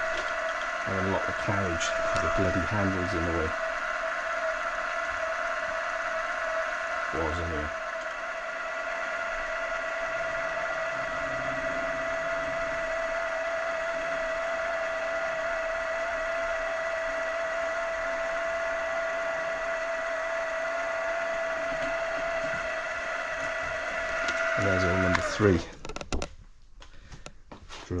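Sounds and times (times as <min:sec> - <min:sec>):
milling machine spindle whine: 0:00.0 - 0:26.3.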